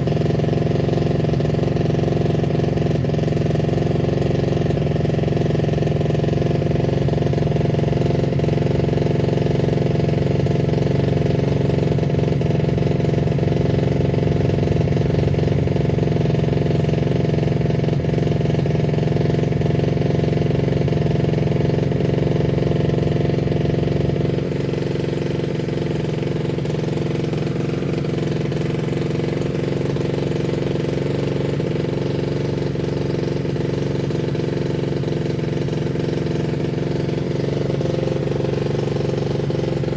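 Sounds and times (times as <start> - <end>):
motocross bike engine idling: 0.0 - 39.9.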